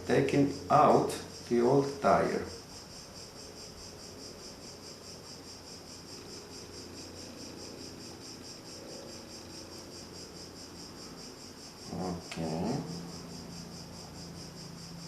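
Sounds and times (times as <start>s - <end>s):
crickets chirping: 0.0s - 15.0s
faint low hum: 0.0s - 15.0s.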